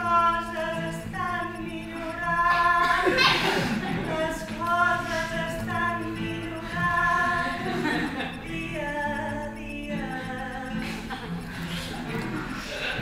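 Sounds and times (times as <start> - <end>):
voices singing slow melody: 0.0 - 13.0.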